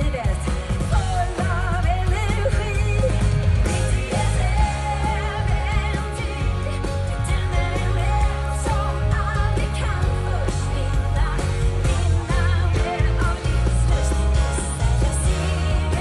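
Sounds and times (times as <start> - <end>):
full band with strong bass: 0.0 - 16.0
woman singing with vibrato: 0.0 - 16.0.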